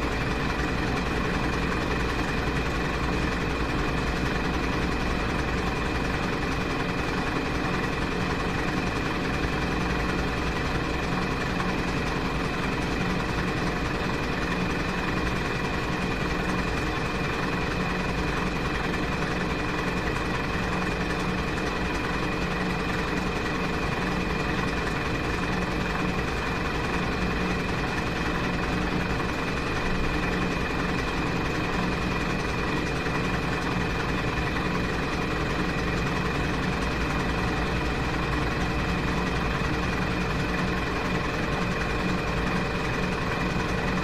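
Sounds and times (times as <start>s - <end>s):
washing machine humming: 0.0s - 44.0s.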